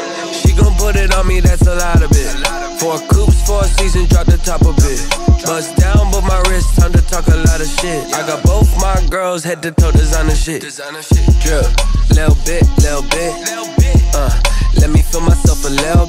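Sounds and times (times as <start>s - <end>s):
hip hop track with rapping: 0.0s - 16.0s.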